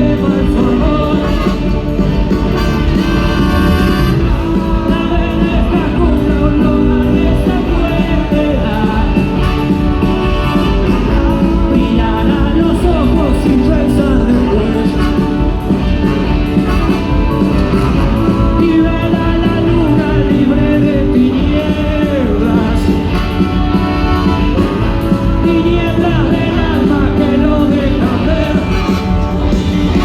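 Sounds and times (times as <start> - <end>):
person singing: 0.0 - 1.9, 3.7 - 30.0
rock band playing live: 0.0 - 30.0.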